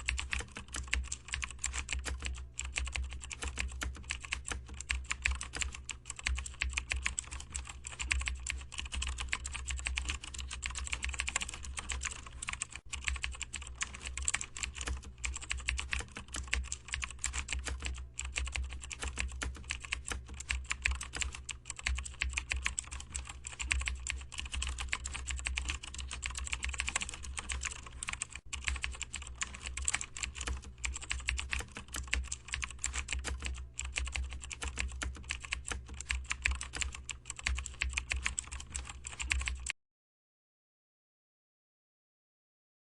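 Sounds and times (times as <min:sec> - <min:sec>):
computer keyboard typing: 0:00.0 - 0:39.8.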